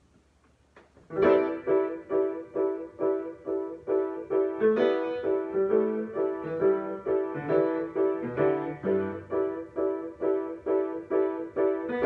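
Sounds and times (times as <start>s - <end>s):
piano chord struck repeatedly: 1.1s - 12.0s.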